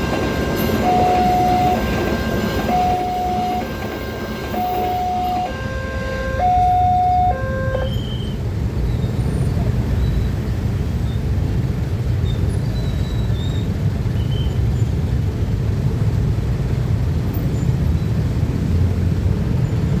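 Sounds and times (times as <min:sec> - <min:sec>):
passing vehicles rumbling: 0:00.0 - 0:20.0.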